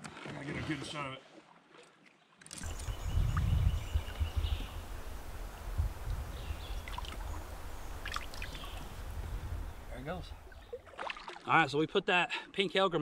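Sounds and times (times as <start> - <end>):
river water: 0.0 - 11.9.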